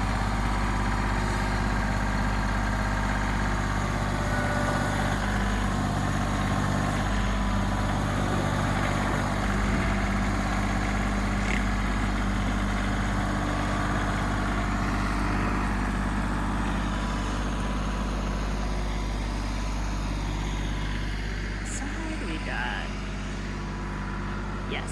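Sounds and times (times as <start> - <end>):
engine idling: 0.0 - 24.9.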